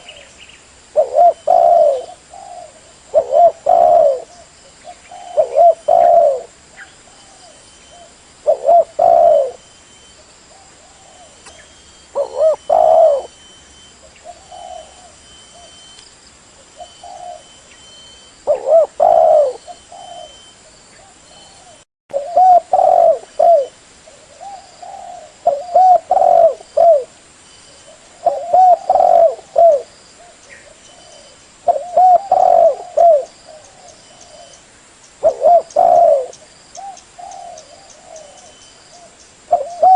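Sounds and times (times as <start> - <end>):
dove cooing: 0.9 - 15.9, 16.6 - 27.1, 27.8 - 34.6, 35.2 - 39.9.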